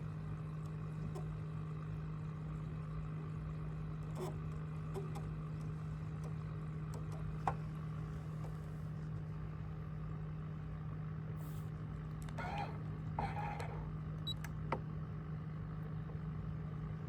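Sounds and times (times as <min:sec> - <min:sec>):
boat motor hum: 0:00.0 - 0:09.5, 0:11.9 - 0:17.0.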